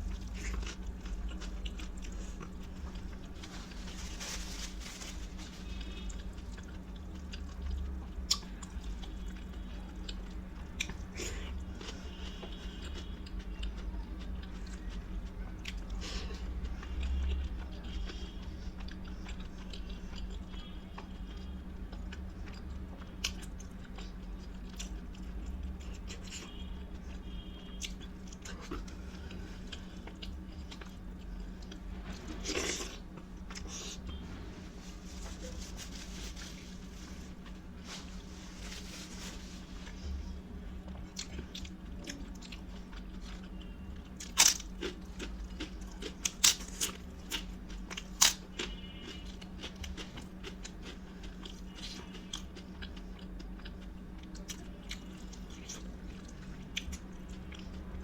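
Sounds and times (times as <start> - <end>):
chewing and biting food: 0.0 - 34.4, 40.7 - 58.0
steady low hum: 0.0 - 58.0.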